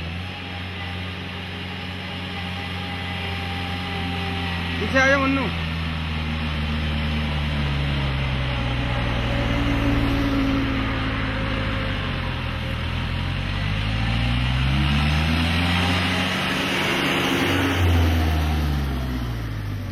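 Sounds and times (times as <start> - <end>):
road and wind noise: 0.0 - 19.9
vehicle engine running: 0.0 - 19.9.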